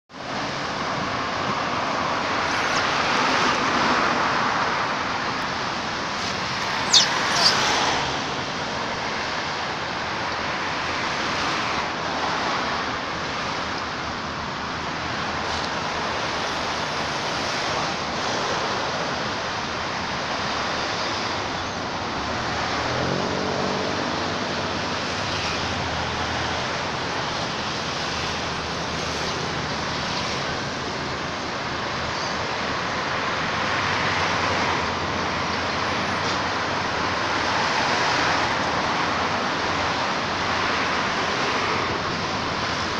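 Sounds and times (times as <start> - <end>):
roadside traffic noise: 0.1 - 42.9.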